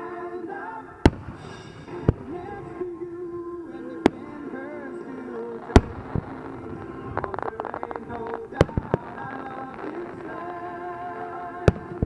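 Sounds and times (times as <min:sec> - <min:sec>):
music with sustained notes: 0:00.0 - 0:12.0
firework shells bursting: 0:01.0 - 0:03.0, 0:03.8 - 0:12.0.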